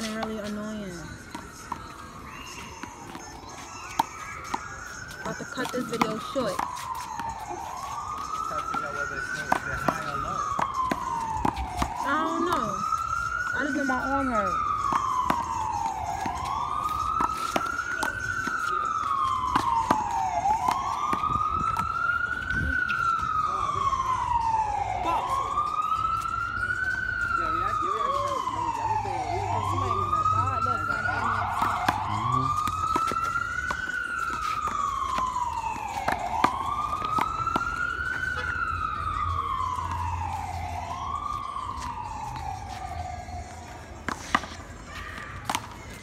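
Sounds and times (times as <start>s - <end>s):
emergency siren wailing: 0.0s - 46.0s.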